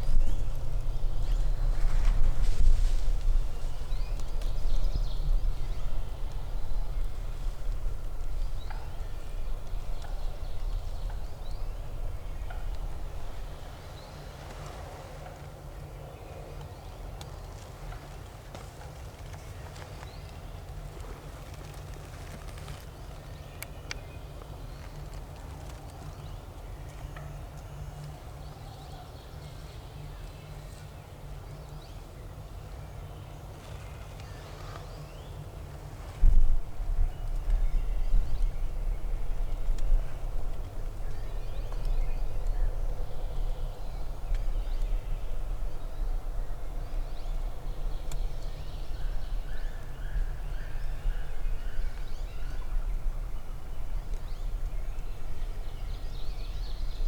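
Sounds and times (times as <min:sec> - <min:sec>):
songbird chirps: 0:00.0 - 0:57.0
wind rumble on microphone: 0:00.0 - 0:57.0.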